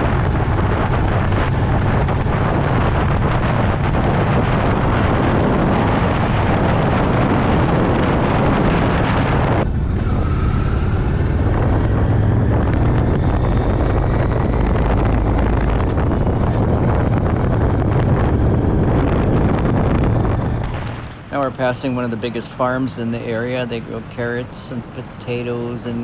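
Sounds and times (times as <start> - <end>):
motorcycle engine: 0.0 - 22.5
wind rush on microphone: 0.0 - 26.0.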